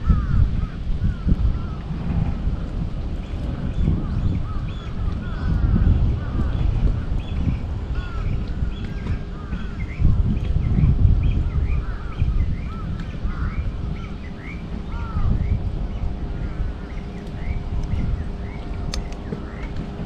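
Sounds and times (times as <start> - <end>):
low rumble: 0.0 - 20.0
birds chirping: 3.2 - 20.0.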